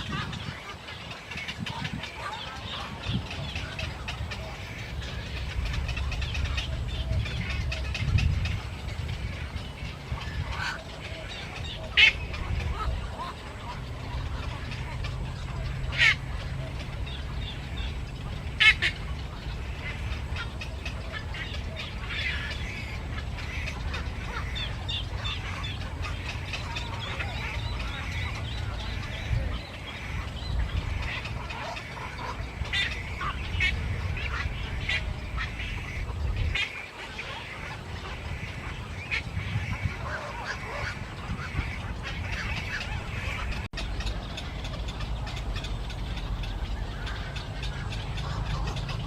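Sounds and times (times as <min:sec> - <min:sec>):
flock of birds calling: 0:00.0 - 0:49.0
steady low rumble: 0:00.0 - 0:49.0.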